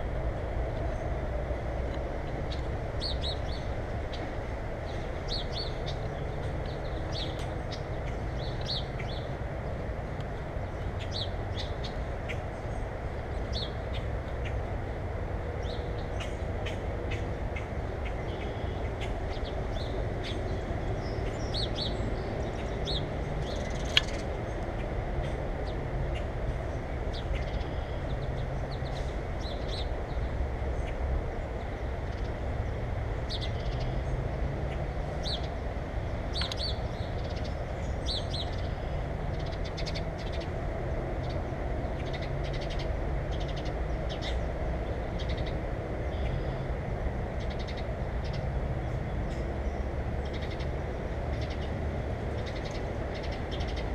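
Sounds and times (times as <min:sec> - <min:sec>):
birds chirping: 0:02.3 - 0:09.8, 0:15.6 - 0:53.9.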